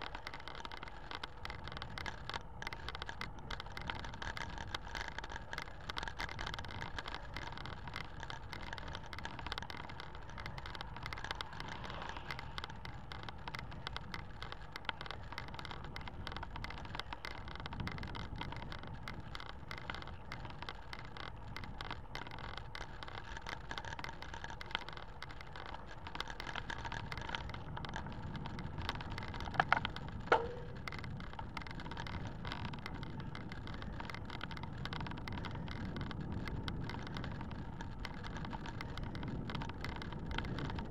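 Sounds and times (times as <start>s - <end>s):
bicycle clicks or squeaks: 0.0s - 40.9s
bicycle tyre and wind noise: 0.0s - 40.9s
small rattling ticks: 0.0s - 40.9s.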